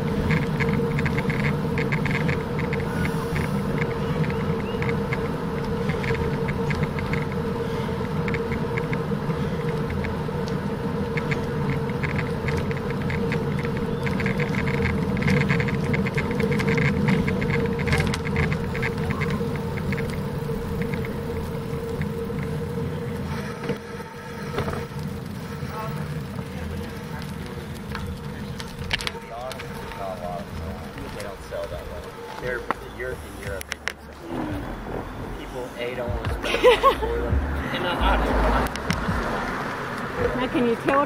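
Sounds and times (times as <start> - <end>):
bicycle tyres rolling on asphalt: 0.0 - 41.0
steady hum: 0.0 - 41.0.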